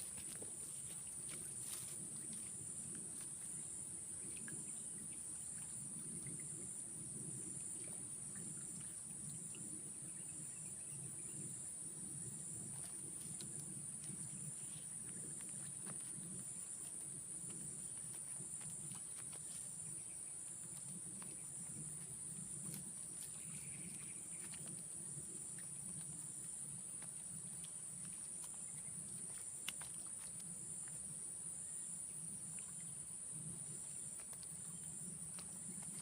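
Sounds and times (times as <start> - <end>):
insect chirping: 0.0 - 36.0
insects droning high-pitched: 0.0 - 36.0.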